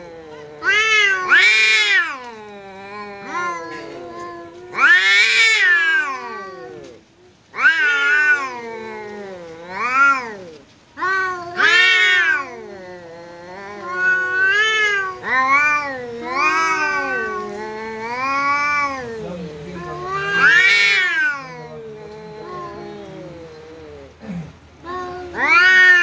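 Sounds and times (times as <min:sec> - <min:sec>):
cats yowling: 0:00.0 - 0:26.0.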